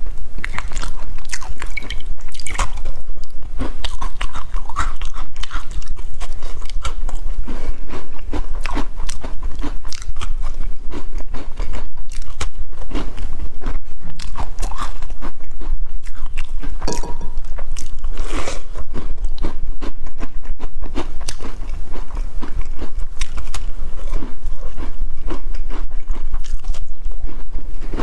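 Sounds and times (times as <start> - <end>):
crunching a crispy biscuit: 0.4 - 28.0.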